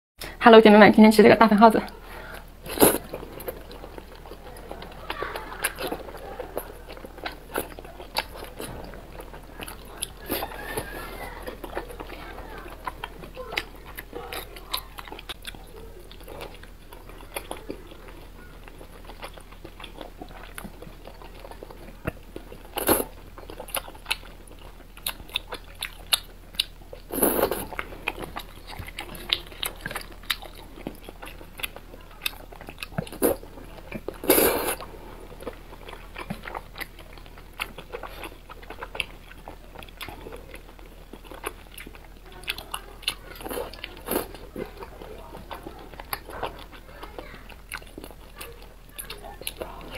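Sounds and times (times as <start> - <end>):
wet chewing and mouth smacks: 1.9 - 49.9.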